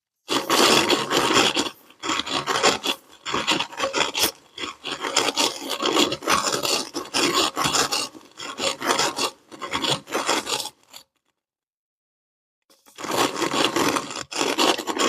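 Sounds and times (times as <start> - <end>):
gritty sand crunching in grinder: 0.3 - 10.8, 12.8 - 15.0.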